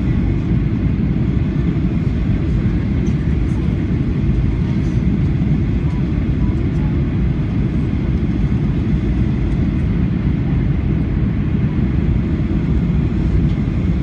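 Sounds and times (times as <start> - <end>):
jet engine cabin roar: 0.0 - 14.0.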